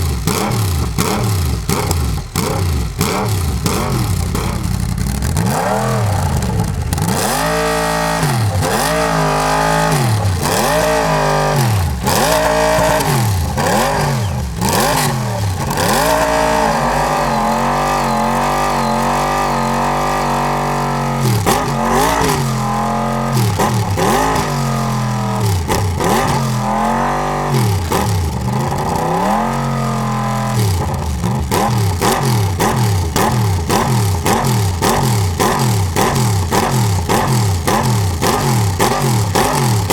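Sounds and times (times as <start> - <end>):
race car engine throttle blips: 0.0 - 39.9.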